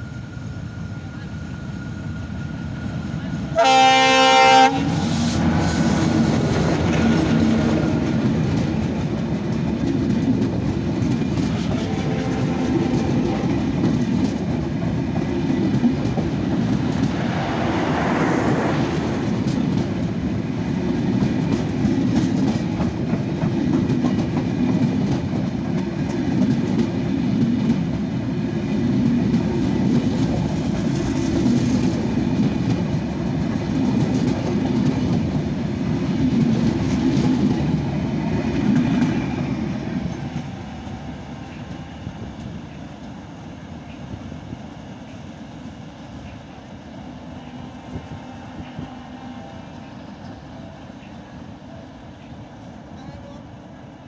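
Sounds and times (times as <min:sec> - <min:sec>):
train passing rumble: 0:00.0 - 0:54.0
clickety-clack of train wheels: 0:01.1 - 0:54.0.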